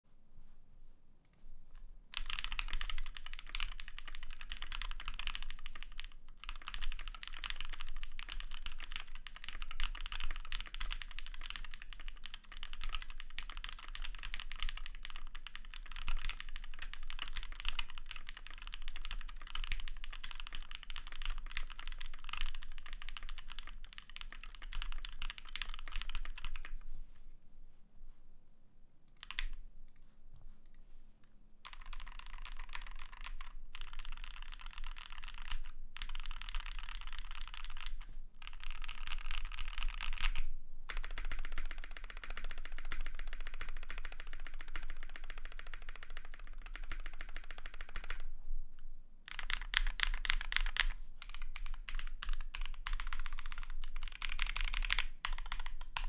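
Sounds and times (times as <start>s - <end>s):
typing on mechanical keyboard: 2.1s - 26.8s, 29.2s - 29.6s, 31.6s - 48.2s, 49.3s - 56.0s.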